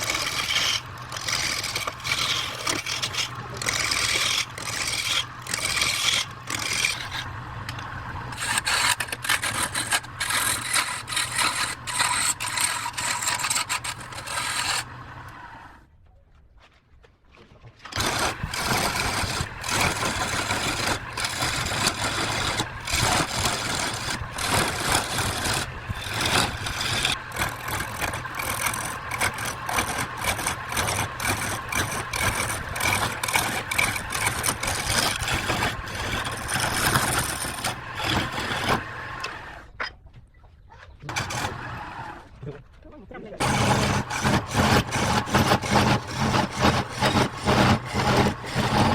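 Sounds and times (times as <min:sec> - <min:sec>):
turning tool scraping wood: 0:00.0 - 0:15.5, 0:17.9 - 0:39.8, 0:41.1 - 0:42.1, 0:43.4 - 0:48.9
lathe motor hum: 0:00.0 - 0:15.7, 0:18.0 - 0:39.4, 0:43.4 - 0:48.9.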